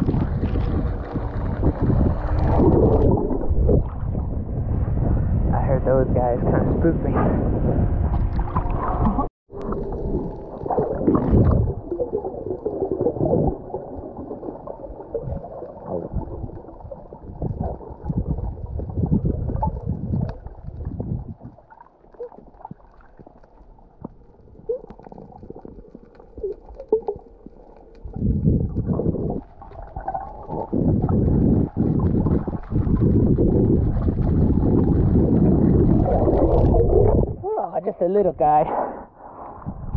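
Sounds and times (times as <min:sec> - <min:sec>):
muffled underwater gurgling: 0:00.0 - 0:38.6.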